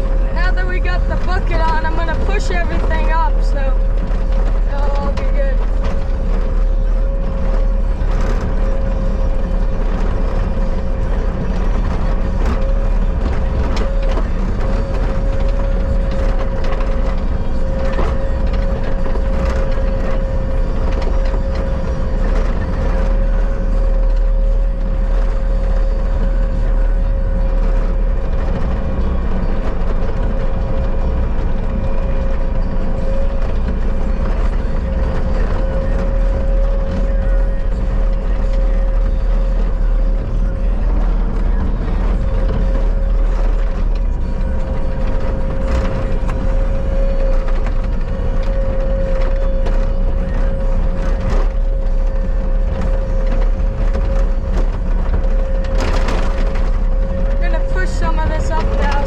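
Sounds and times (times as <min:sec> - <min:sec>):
skid steer engine rumble: 0:00.0 - 0:59.0.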